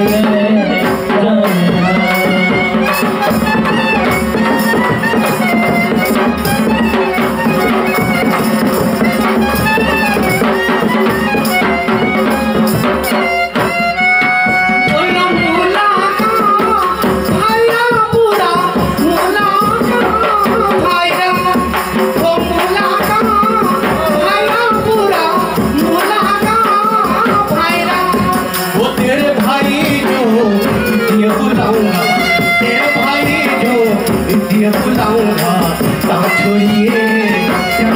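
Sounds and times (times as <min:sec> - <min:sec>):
hand drum: 0:00.0 - 0:37.9
harmonium: 0:00.0 - 0:37.9
jingling percussion: 0:00.0 - 0:37.9
person singing: 0:00.0 - 0:37.9.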